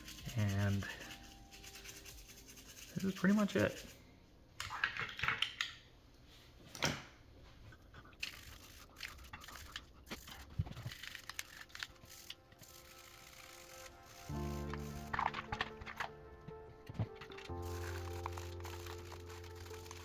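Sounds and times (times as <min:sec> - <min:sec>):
toothbrush scrubbing plastic parts: 0:00.0 - 0:04.0, 0:07.8 - 0:20.0.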